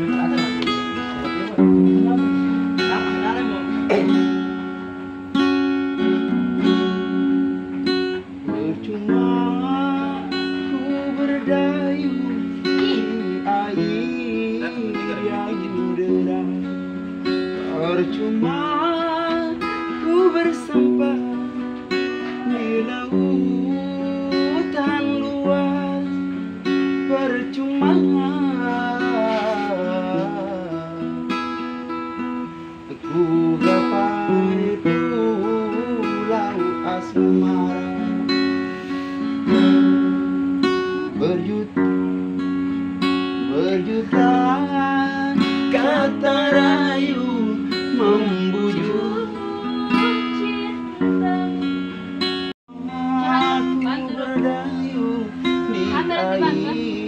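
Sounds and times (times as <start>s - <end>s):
acoustic guitar chords: 0.0s - 57.0s
person singing: 5.8s - 42.3s, 43.2s - 57.0s.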